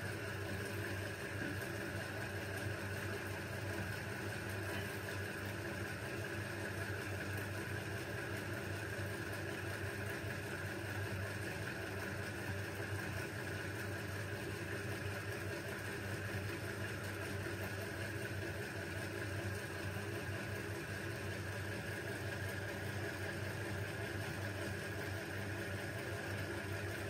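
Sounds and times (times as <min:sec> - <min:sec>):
steady machine hum: 0:00.0 - 0:07.1, 0:08.0 - 0:27.0.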